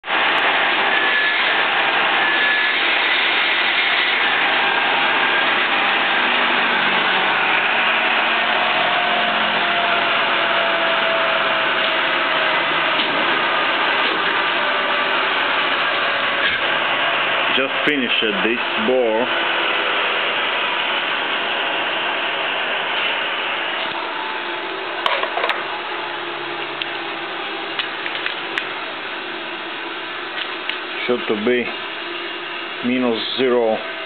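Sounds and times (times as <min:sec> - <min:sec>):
boring machine whirring: 0:00.0 - 0:34.0.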